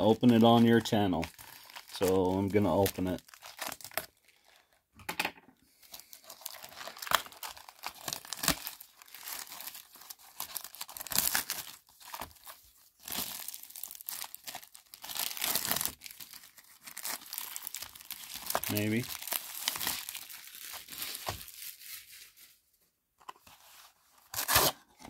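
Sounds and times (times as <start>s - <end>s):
plastic shrink wrap crinkling: 0.0s - 4.8s, 5.7s - 22.7s.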